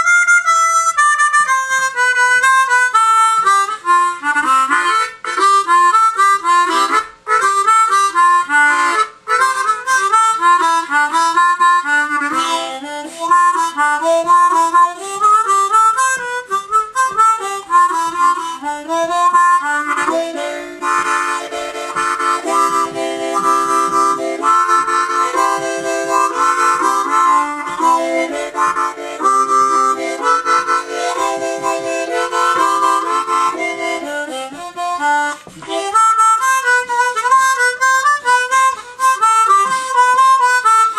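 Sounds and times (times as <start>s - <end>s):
harmonica playing: 0.0s - 40.9s.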